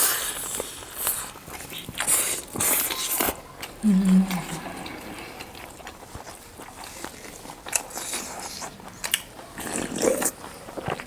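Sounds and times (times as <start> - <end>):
biting and chewing: 0.0 - 11.0
wet chewing clicks: 0.0 - 11.0.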